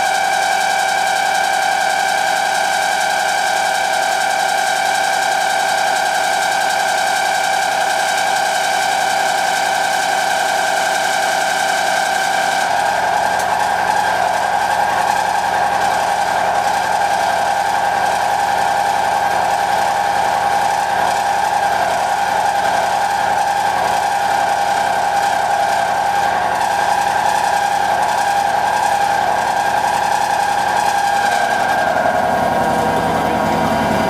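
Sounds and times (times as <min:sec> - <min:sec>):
milling machine cutting whine: 0:00.0 - 0:34.0.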